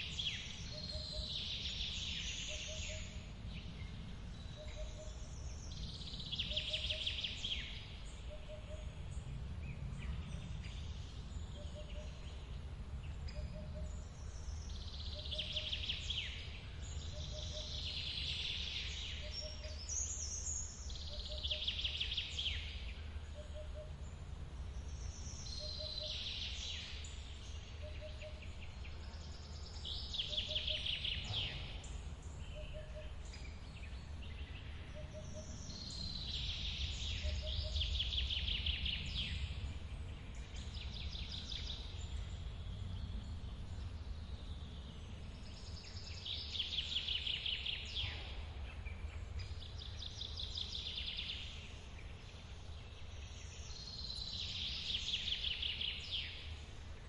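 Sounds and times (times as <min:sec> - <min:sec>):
birds trilling song: 0:00.0 - 0:57.0.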